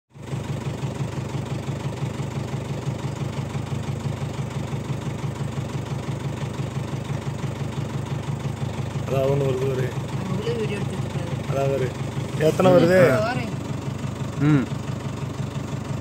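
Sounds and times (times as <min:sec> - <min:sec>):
vehicle engine idling: 0:00.1 - 0:16.0.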